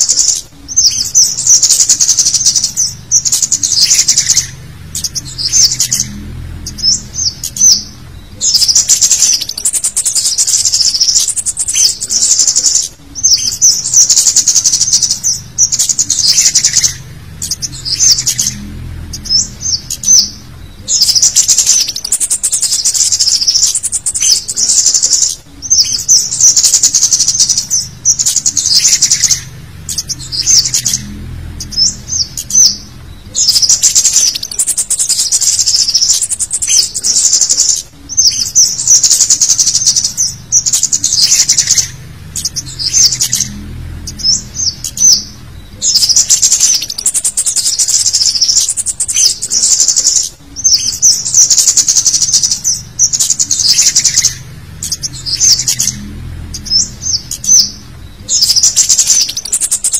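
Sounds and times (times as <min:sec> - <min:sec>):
high bird twittering: 0:00.0 - 0:59.9.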